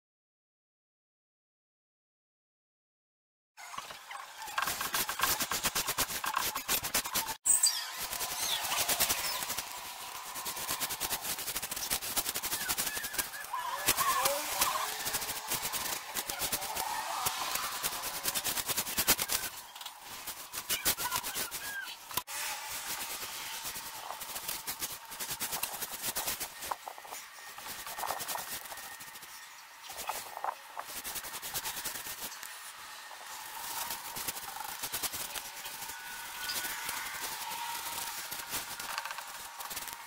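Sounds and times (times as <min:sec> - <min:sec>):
paintbrush scraping wood: 0:04.6 - 0:40.0.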